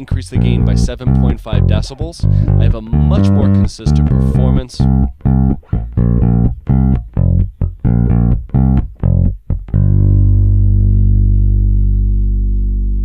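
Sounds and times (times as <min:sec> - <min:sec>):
electric bass line: 0:00.0 - 0:13.0.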